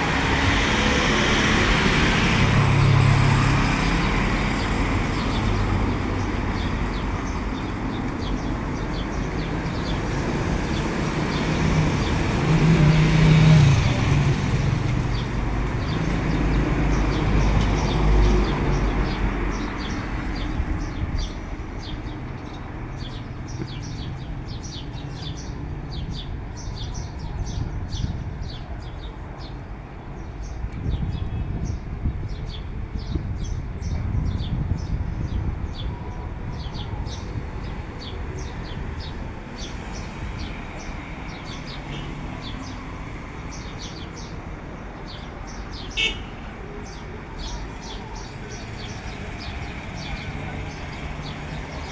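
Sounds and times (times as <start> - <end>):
small birds chirping: 3.3 - 51.9.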